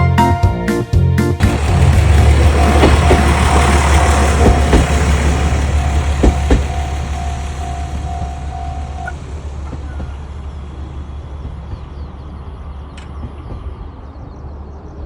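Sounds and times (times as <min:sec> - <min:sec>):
train rumbling past: 0:01.4 - 0:15.0.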